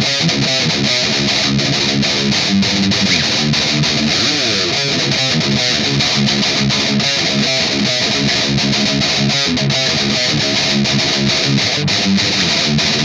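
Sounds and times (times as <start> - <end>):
overdriven electric guitar riffing: 0.0 - 13.0.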